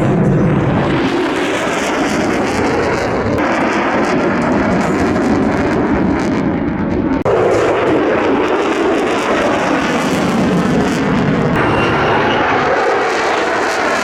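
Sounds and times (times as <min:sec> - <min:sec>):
fighter jet engine roaring: 0:00.0 - 0:14.0.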